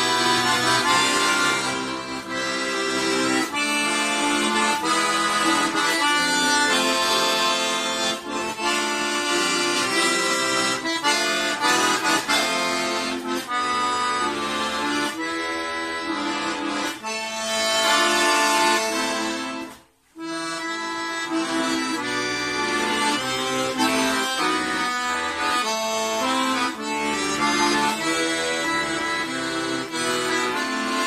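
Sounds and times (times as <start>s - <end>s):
button accordion playing: 0.0s - 31.0s.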